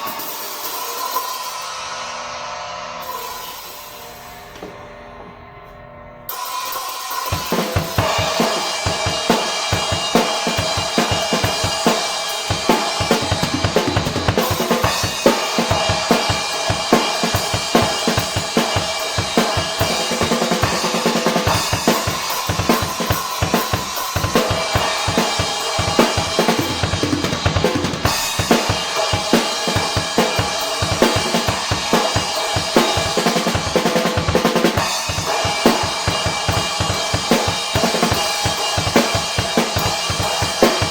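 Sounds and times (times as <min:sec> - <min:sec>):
cymbal ringing wash: 0:06.3 - 0:40.9
drum kit groove: 0:06.3 - 0:40.9.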